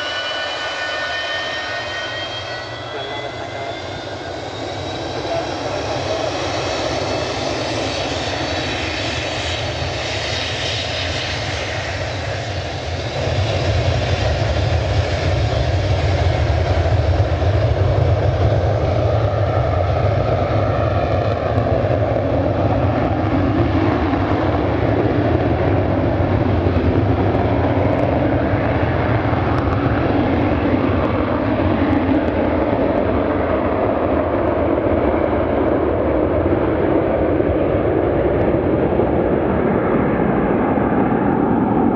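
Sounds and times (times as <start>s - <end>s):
jet engines at take-off thrust: 0.0s - 41.9s.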